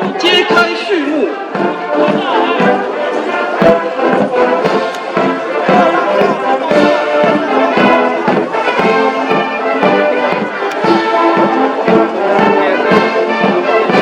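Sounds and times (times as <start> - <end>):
brass band playing a march: 0.0 - 14.0
steady drum beat: 0.0 - 14.0.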